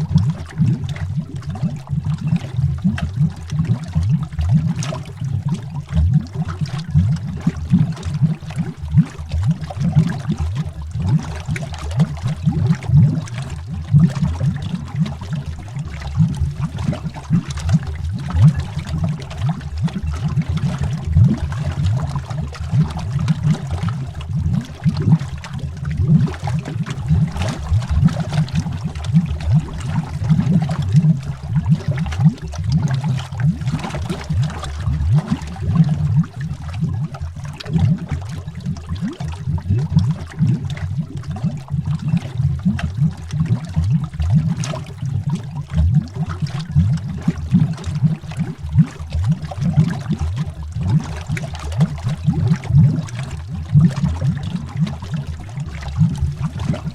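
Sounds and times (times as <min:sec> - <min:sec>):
underwater bubbles gurgling: 0:00.0 - 0:56.9.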